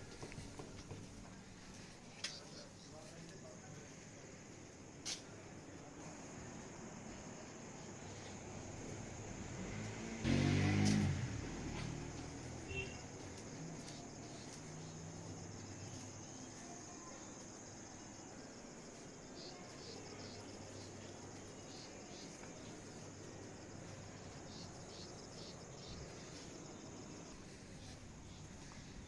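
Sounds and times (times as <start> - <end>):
crickets trilling: 0.1 - 29.0
quick cricket chirps: 1.5 - 29.0.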